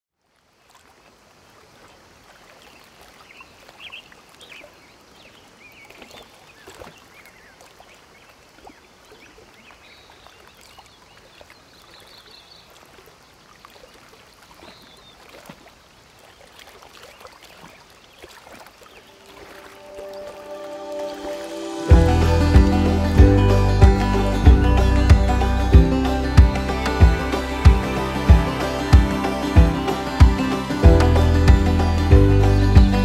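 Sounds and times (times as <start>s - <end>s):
river water lapping at bank: 0.2s - 33.0s
small water splashes: 0.2s - 33.0s.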